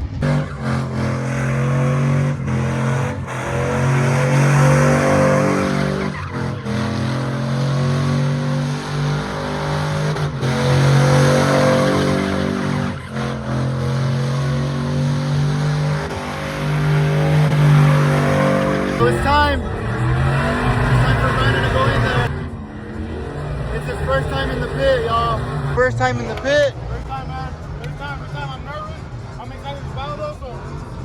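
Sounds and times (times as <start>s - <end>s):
tires squealing: 0.0s - 31.0s
truck engine high revs: 0.0s - 31.0s.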